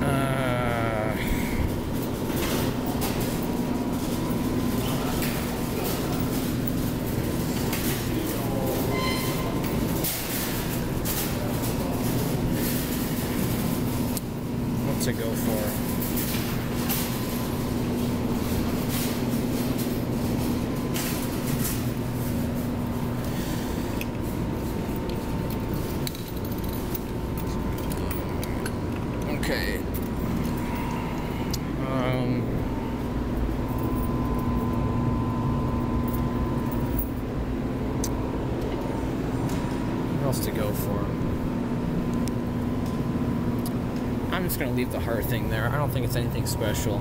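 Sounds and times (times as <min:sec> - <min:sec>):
machine ventilation hum: 0:00.0 - 0:47.0.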